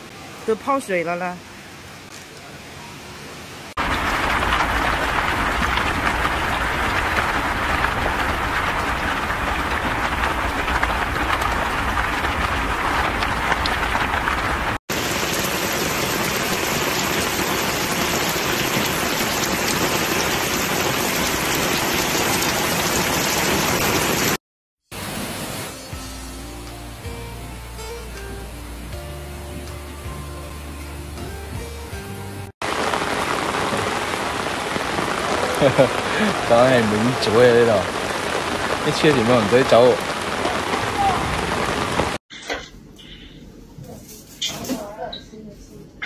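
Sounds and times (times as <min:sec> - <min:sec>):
heavy rain pouring: 0:00.0 - 0:30.7, 0:32.6 - 0:42.2.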